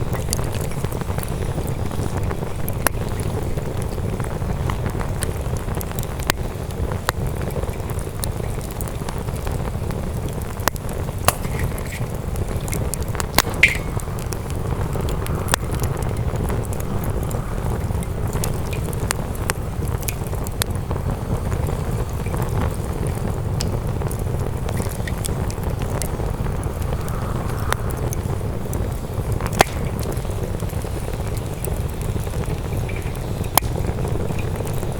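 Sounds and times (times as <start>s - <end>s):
campfire crackling and popping: 0.0s - 34.9s
steady low rumble: 0.0s - 34.9s.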